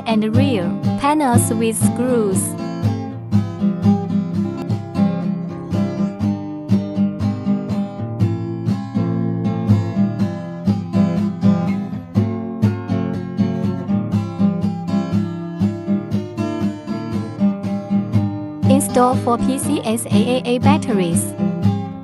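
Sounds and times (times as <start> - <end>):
acoustic guitar strumming: 0.3 - 22.0.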